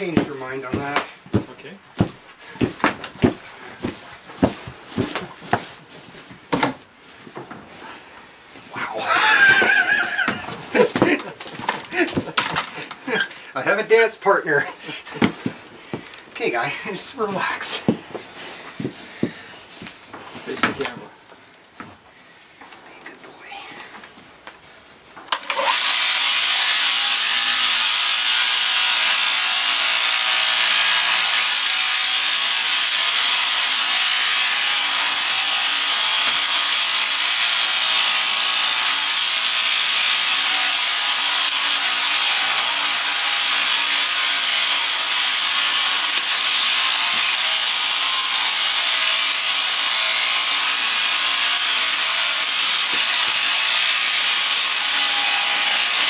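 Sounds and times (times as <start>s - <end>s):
sheep shearing handpiece running: 0.0s - 6.8s, 9.0s - 13.4s, 14.6s - 21.0s, 25.3s - 56.0s.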